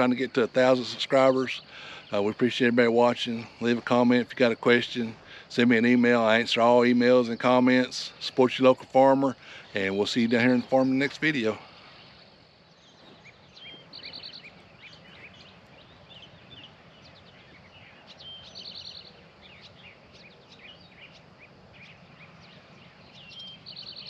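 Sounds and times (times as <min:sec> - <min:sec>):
songbirds singing and chirping: 0:00.0 - 0:24.0.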